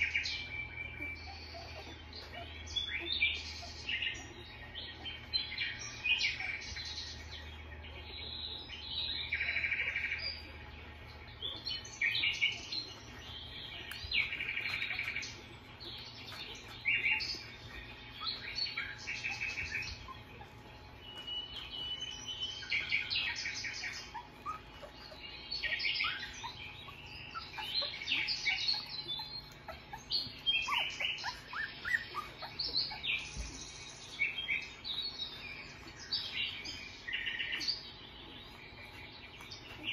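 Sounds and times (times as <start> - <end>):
puppies squeaking and whimpering: 0.0 - 39.9.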